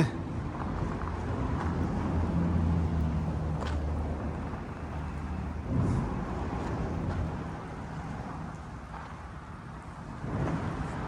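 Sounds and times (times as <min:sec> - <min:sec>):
vehicle engine humming: 0:00.2 - 0:11.0.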